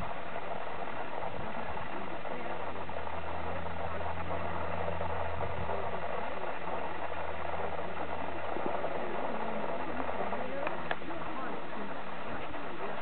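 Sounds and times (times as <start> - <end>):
engine idling hum: 0.0 - 13.0
outdoor background hiss: 0.0 - 13.0.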